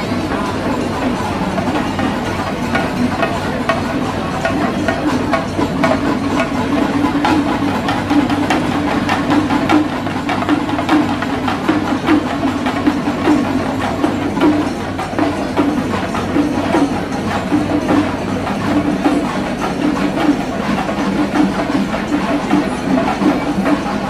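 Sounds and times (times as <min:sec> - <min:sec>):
percussion ensemble drumming: 0:00.0 - 0:24.0.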